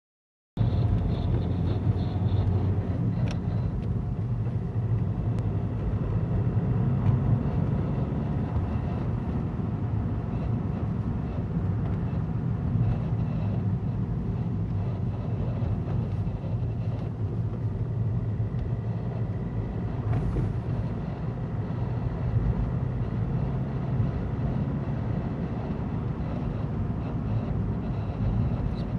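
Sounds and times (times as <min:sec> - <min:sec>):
car engine and road rumble: 0:00.6 - 0:28.9.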